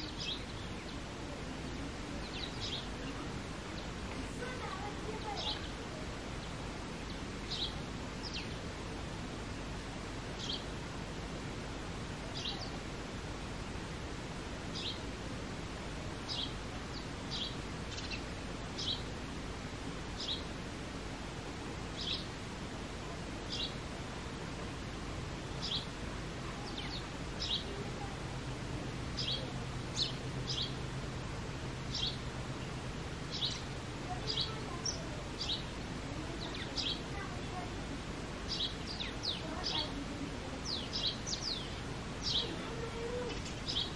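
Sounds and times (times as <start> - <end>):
background hiss: 0.0 - 43.9.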